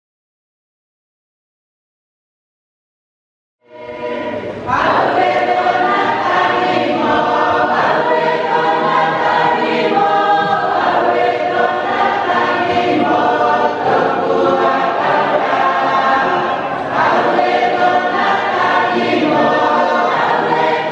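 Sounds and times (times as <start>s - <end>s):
congregation singing a hymn: 3.7s - 20.9s.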